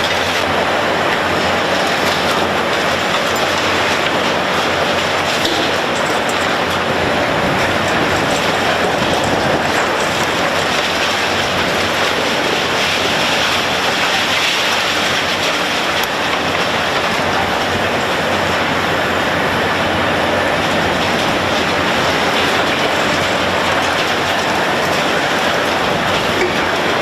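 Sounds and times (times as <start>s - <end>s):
heavy construction machinery: 0.0s - 27.0s.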